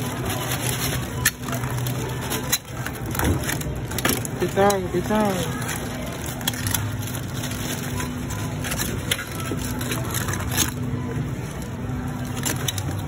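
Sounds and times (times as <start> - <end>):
crab shells clicking and scraping: 0.0 - 10.9, 11.5 - 13.0.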